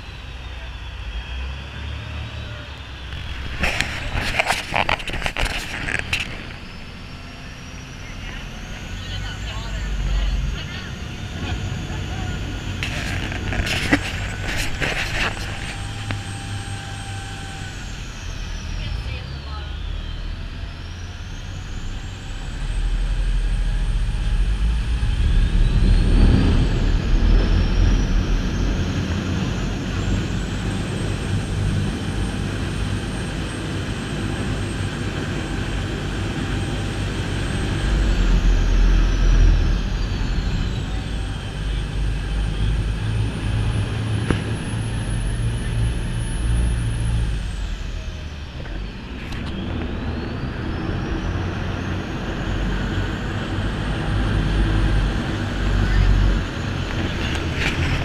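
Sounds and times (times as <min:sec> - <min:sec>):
boat engine rumbling: 0:00.0 - 0:58.0
high whine: 0:00.0 - 0:58.0.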